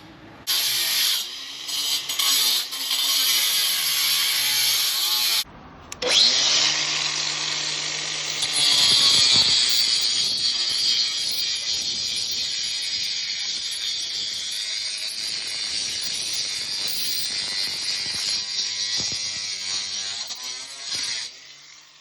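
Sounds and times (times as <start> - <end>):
electric power tool running: 4.2 - 22.0.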